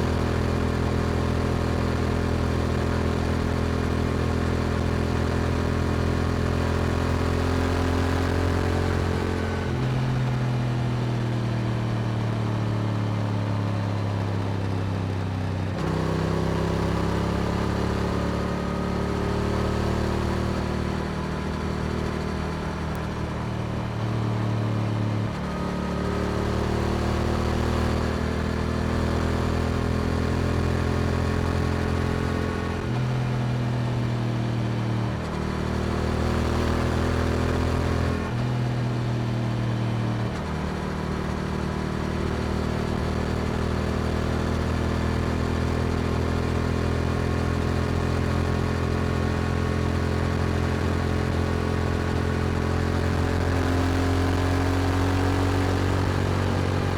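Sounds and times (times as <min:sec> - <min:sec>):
motorcycle engine while riding: 0:00.0 - 0:56.9.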